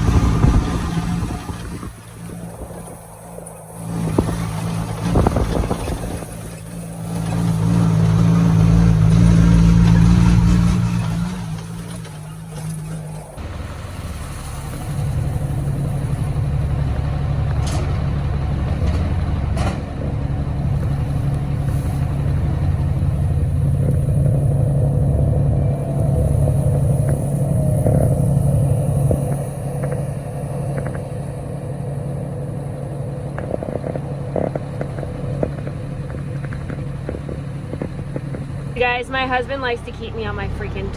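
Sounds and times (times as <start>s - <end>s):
farm vehicle engine running: 0.0s - 40.9s.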